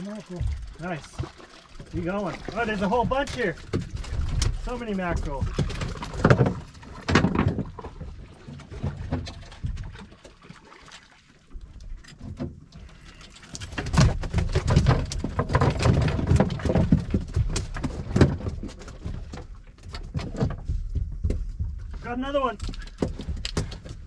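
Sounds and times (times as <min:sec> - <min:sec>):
wind and water rumble: 0:00.0 - 0:24.0.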